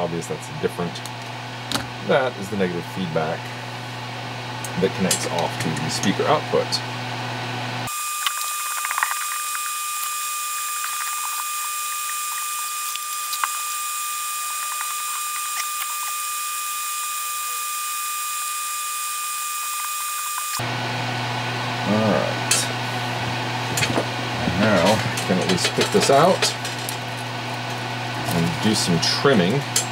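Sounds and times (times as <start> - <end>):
high-pitched hum and hiss: 0.0 - 27.3.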